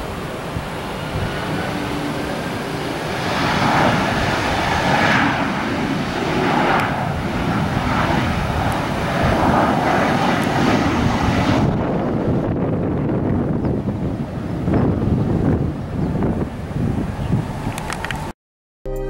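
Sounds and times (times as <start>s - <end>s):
airliner jet engines passing: 0.0s - 18.3s.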